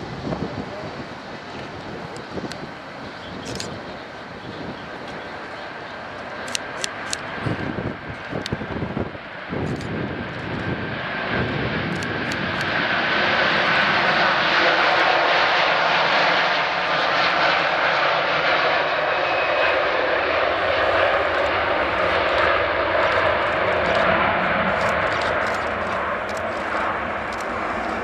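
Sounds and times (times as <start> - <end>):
jet engine roar: 0.0 - 28.0.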